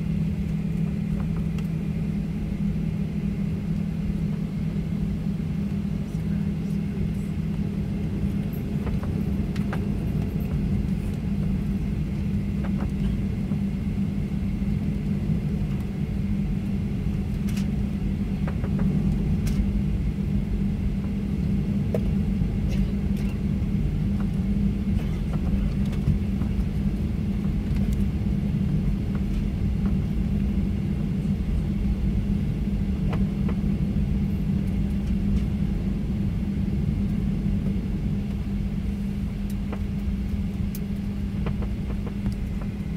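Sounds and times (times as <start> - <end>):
airplane cabin rumble: 0.0 - 42.9
jet engine low hum: 0.0 - 42.9.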